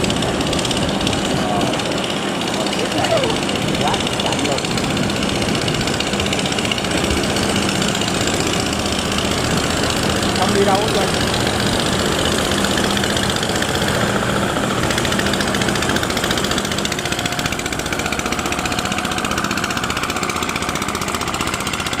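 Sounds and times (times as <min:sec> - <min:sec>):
small boat engine running: 0:00.0 - 0:22.0.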